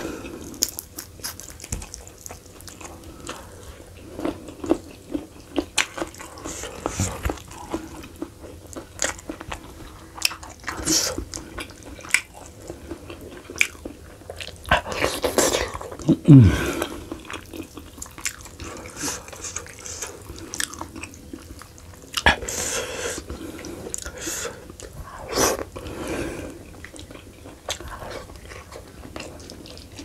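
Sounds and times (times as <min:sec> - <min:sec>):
man chewing wetly: 0:00.0 - 0:30.0.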